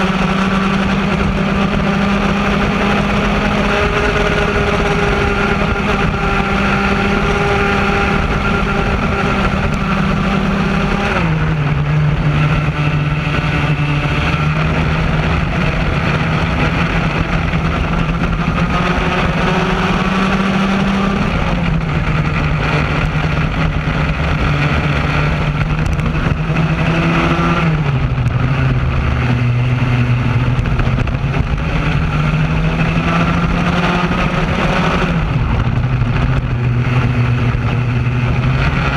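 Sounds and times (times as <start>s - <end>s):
kart engine racing: 0.0s - 38.9s.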